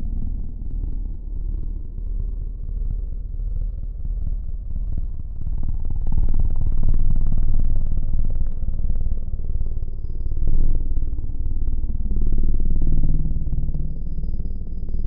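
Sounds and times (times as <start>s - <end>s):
low fluttering rumble: 0.0s - 15.0s.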